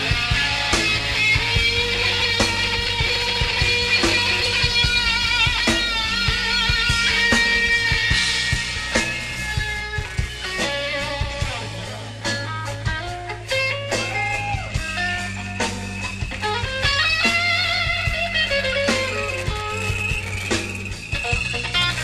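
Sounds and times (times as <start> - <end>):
bass notes: 0.0 - 22.0
drums: 0.0 - 22.0
electric guitar lead line: 0.0 - 22.0.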